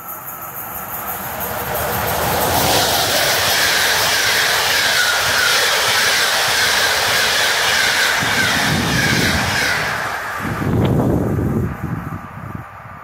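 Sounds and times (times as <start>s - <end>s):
train passing at speed: 0.0s - 13.0s
wheels squealing on rails: 0.0s - 13.0s.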